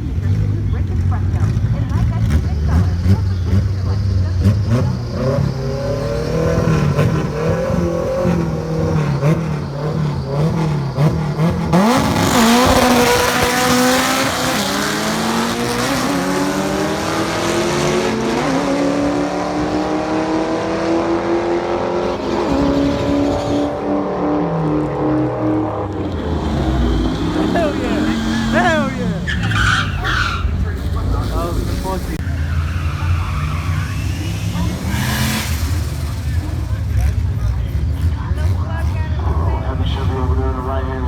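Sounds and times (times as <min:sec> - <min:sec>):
car engine revving and accelerating: 0:00.0 - 0:41.0.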